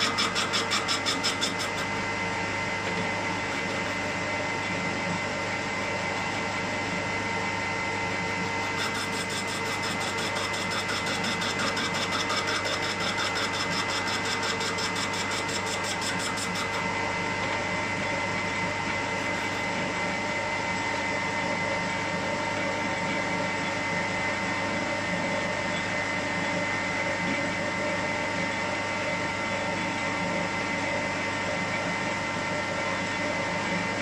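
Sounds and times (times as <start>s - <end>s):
metal lathe humming: 0.0s - 31.4s.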